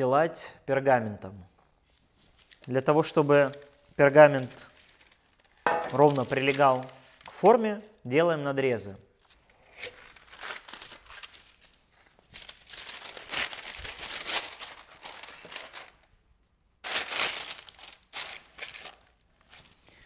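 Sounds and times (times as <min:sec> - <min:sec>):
parchment paper crinkling: 0:01.8 - 0:08.0, 0:09.2 - 0:16.1, 0:16.8 - 0:20.0.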